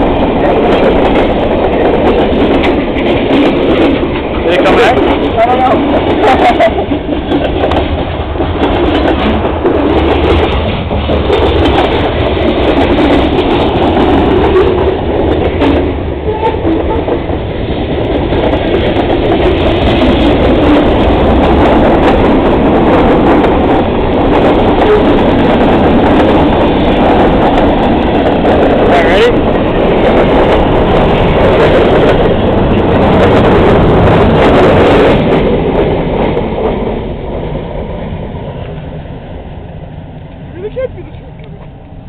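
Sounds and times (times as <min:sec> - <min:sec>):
freight train passing: 0:00.0 - 0:42.0.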